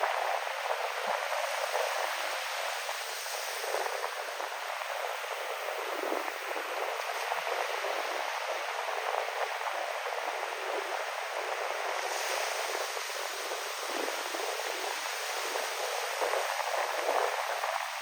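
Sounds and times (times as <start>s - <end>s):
ocean surf washing in: 0.0s - 18.0s
wind: 0.0s - 18.0s.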